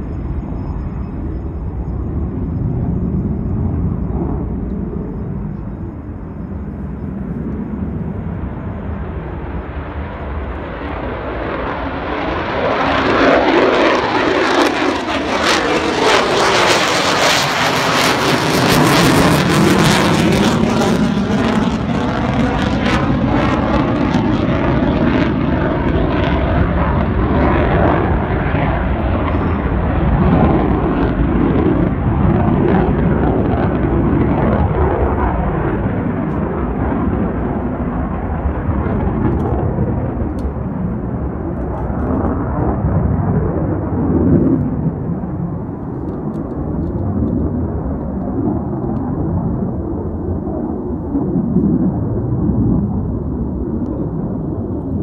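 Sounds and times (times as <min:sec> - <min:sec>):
jet engine rumble: 0:00.0 - 0:55.0
jet passing overhead whoosh: 0:00.0 - 0:55.0.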